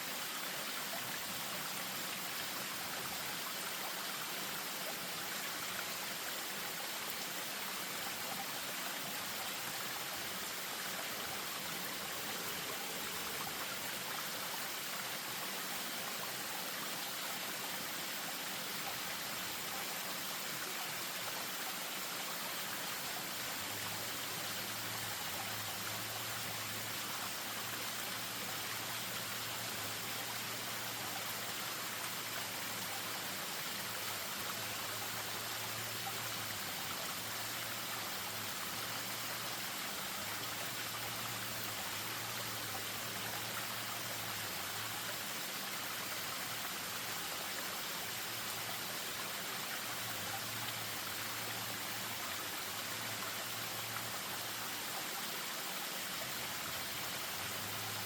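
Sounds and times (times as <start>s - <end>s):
stream over small waterfall: 0.0s - 58.0s.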